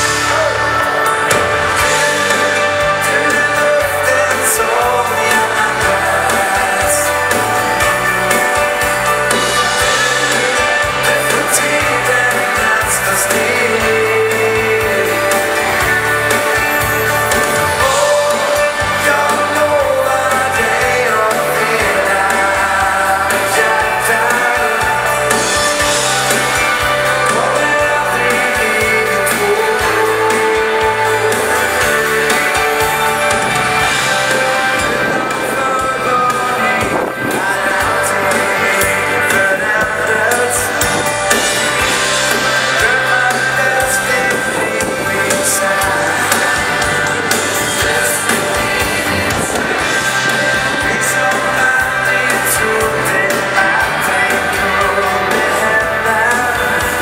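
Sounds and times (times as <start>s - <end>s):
bass line: 0.0s - 57.0s
dance band playing live: 0.0s - 57.0s
person singing: 0.0s - 57.0s.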